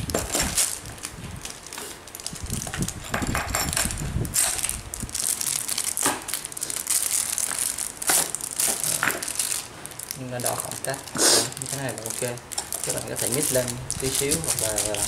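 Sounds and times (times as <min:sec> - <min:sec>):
plastic film crinkling: 0:00.0 - 0:03.1, 0:03.8 - 0:15.0.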